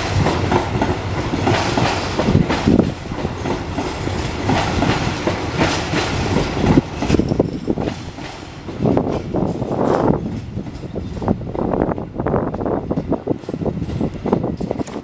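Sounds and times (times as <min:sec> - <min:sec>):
train wheels clattering over track: 0:00.0 - 0:15.0.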